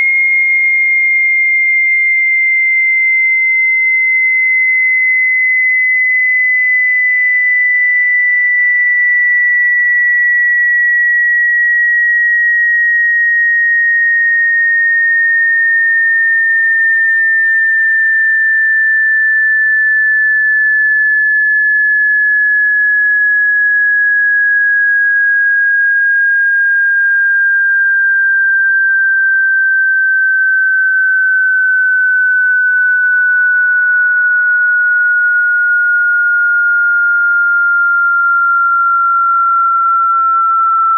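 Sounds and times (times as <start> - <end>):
sine wave tone sweeping down: 0.0 - 40.9.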